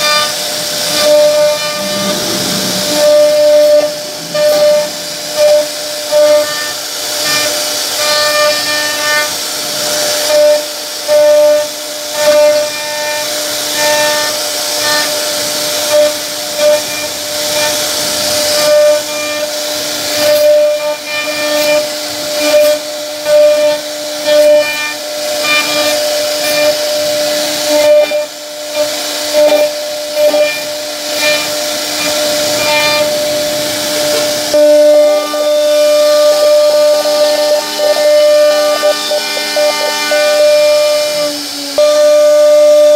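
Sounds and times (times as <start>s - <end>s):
bit cutting wood hiss: 0.0s - 42.9s
wood router whining: 0.0s - 42.9s.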